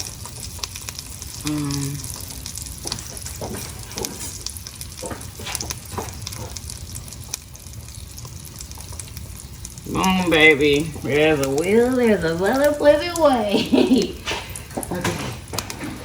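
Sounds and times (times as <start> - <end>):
crackles and pops: 0.0 - 16.0
oil sizzling in a frying pan: 0.0 - 16.0.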